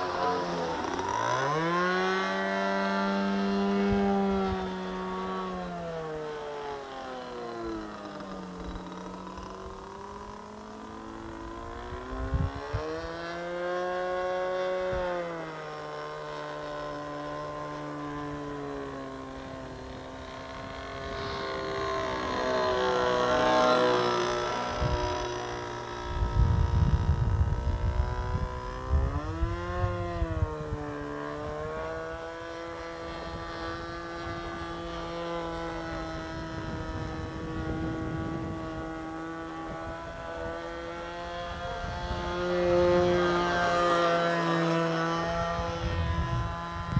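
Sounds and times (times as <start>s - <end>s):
model plane engine in flight: 0.0s - 46.9s.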